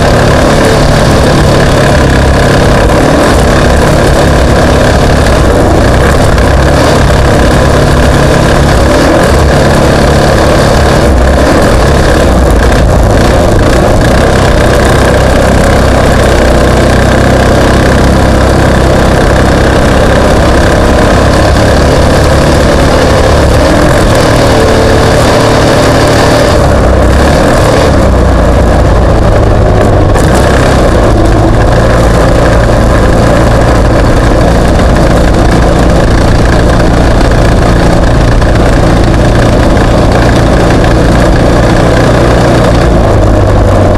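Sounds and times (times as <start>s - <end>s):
race vehicle engine running: 0.0s - 43.9s.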